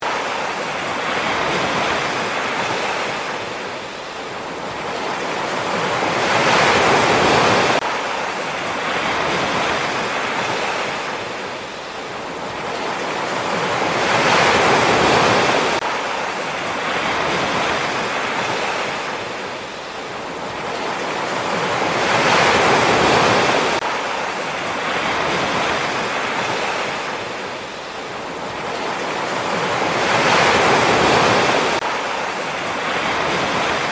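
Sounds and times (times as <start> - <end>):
waves breaking and washing back: 0.0 - 33.9.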